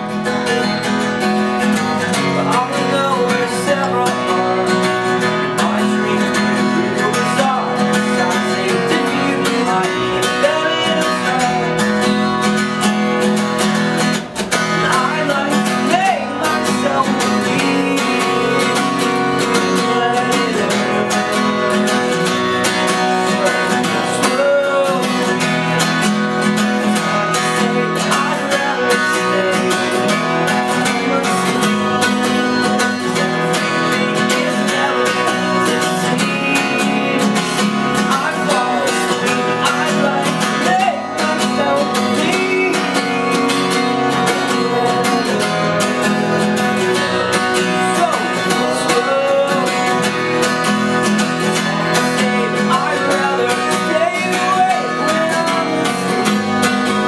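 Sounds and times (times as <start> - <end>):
acoustic guitar strummed: 0.0 - 57.0
man singing: 0.0 - 57.0.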